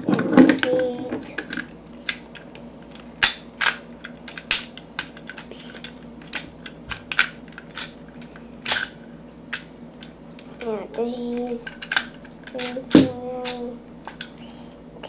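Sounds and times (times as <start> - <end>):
plastic toy parts clicking: 1.4 - 14.3.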